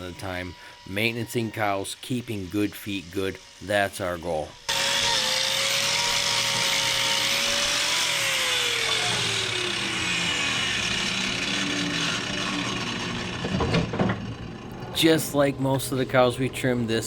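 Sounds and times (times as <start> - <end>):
grinder grinding hoof: 0.0 - 17.0.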